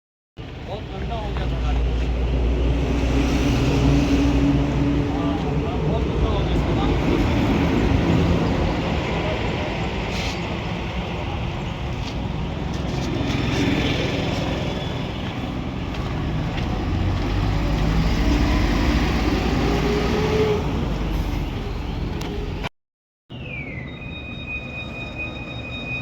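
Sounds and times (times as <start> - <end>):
road traffic noise: 0.4 - 22.7, 23.3 - 26.0
vehicle engine rumble: 0.4 - 22.7.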